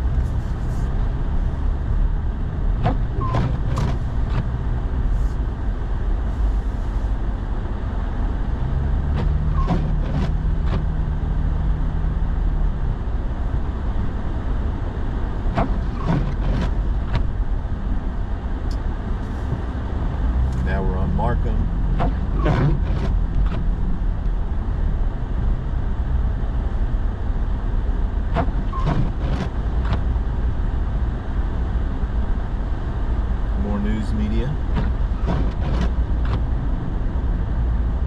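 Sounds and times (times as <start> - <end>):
truck engine rumble: 0.0 - 38.0.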